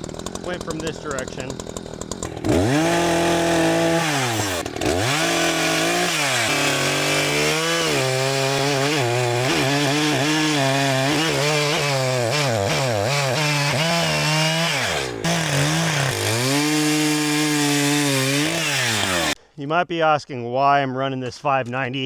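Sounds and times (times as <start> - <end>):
chainsaw cutting wood: 0.0 - 19.4.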